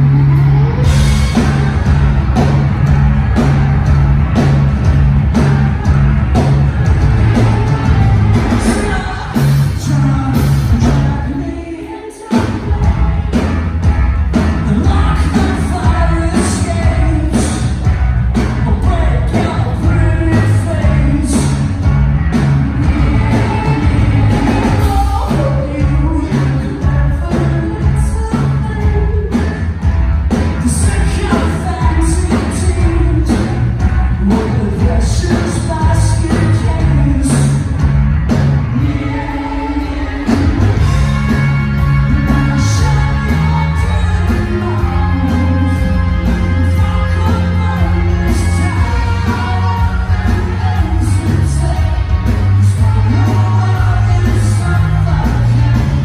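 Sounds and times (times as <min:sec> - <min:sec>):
drum kit: 0:00.0 - 0:56.0
electric bass: 0:00.0 - 0:56.0
lead vocals: 0:00.0 - 0:56.0
live rock band playing: 0:00.0 - 0:56.0.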